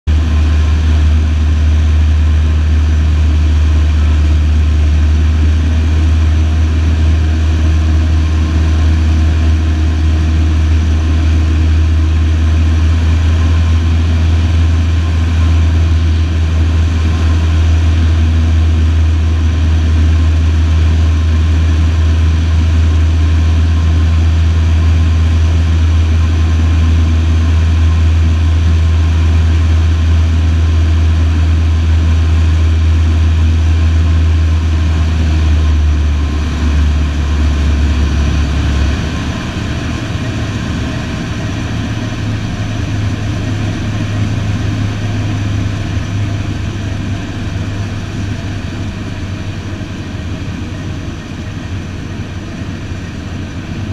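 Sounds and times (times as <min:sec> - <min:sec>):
aircraft engine drone from cabin: 0:00.1 - 0:53.9.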